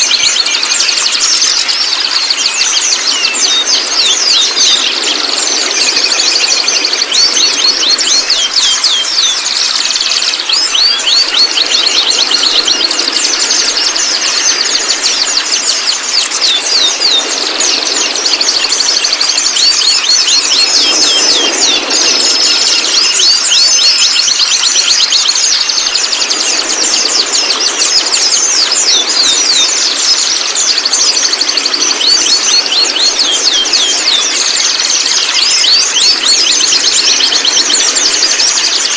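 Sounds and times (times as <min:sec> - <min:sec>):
bird singing rapid chattering notes: 0:00.0 - 0:38.9.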